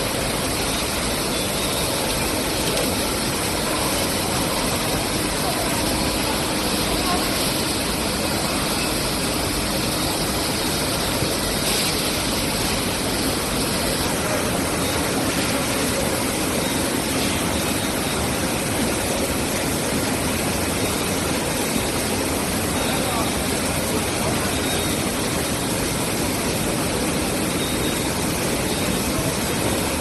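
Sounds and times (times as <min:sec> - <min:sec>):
canning line machinery hum: 0:00.0 - 0:30.0.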